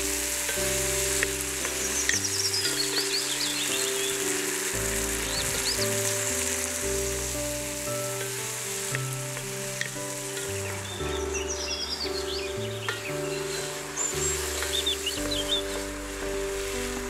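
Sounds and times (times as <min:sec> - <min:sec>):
background music of held notes: 0:00.0 - 0:17.0
chicken sizzling in a pot: 0:00.0 - 0:17.0.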